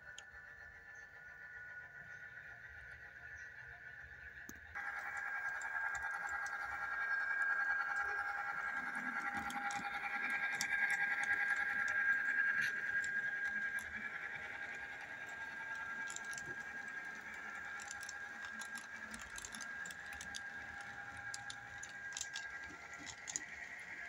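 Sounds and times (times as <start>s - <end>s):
model train whine: 0.0s - 24.0s
wheels clicking over rails: 4.3s - 24.0s.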